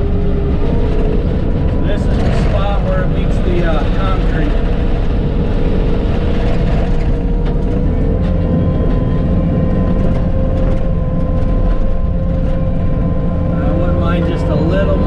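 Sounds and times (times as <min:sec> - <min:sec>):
diesel engine running with whine: 0:00.0 - 0:15.0.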